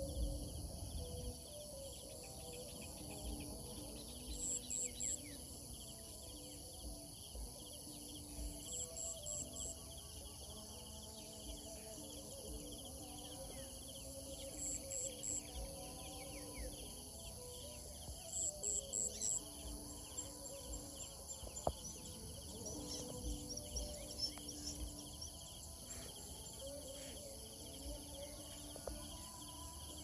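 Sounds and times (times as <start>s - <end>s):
insect buzz: 0.0s - 30.0s.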